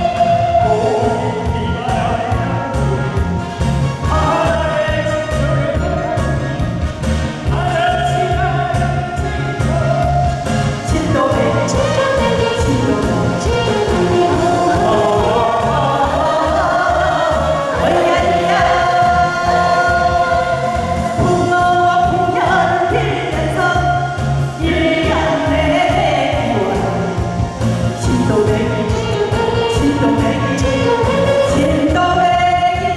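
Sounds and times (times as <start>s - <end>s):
backing music with bass beat: 0.0s - 32.9s
man and woman singing duet: 0.0s - 32.9s.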